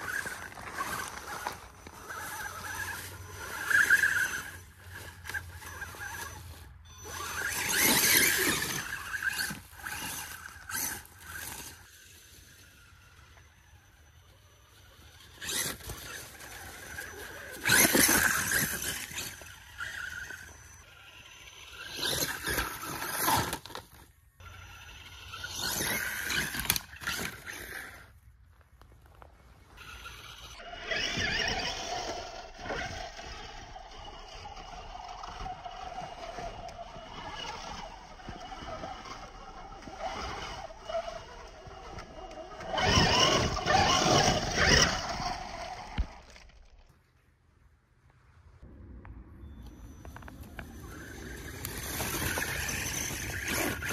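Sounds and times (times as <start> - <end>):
toy car electric motor whining: 0.0 - 28.2, 29.6 - 47.0, 50.0 - 53.9.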